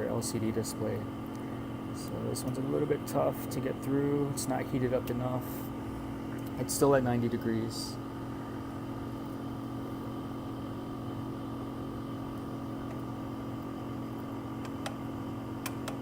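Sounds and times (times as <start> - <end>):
vacuum pump hum: 0.0 - 16.0.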